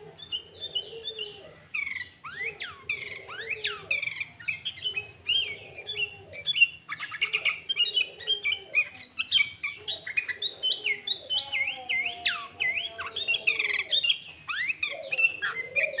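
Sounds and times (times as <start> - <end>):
bird singing rapid chirps: 0.2 - 16.0.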